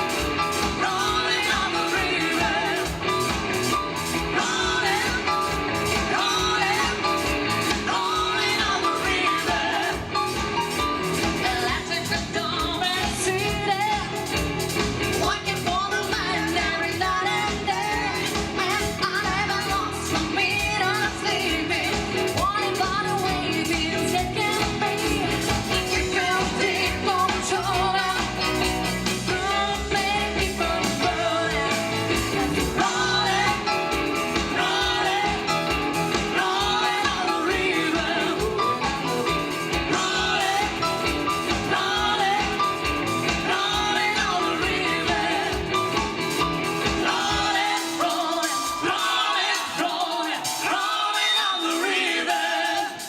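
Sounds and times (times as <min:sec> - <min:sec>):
women singing: 0:00.0 - 0:14.5, 0:15.2 - 0:46.2, 0:46.8 - 0:53.0
pop-rock band playing: 0:00.0 - 0:53.0.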